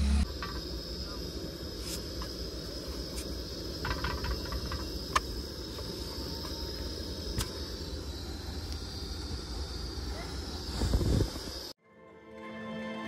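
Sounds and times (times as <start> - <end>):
gas burner hissing: 0.0 - 11.8.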